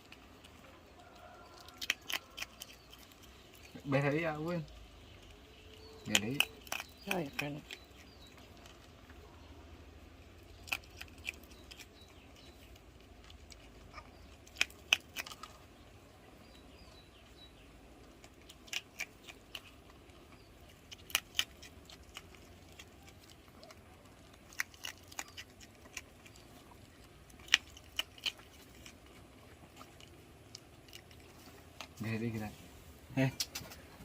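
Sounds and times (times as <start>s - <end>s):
otter crunching food: 0.0s - 34.0s.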